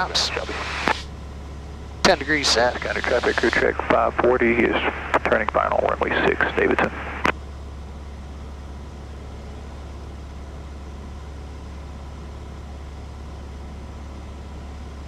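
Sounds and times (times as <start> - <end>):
aircraft engine drone: 0.0 - 15.0.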